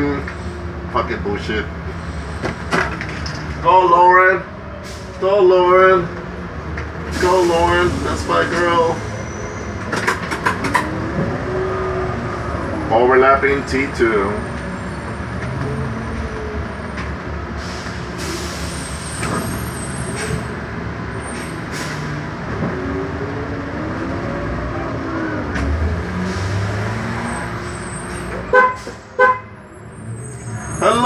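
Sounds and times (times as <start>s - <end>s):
bus engine running: 0.0s - 31.0s
road noise: 0.0s - 31.0s.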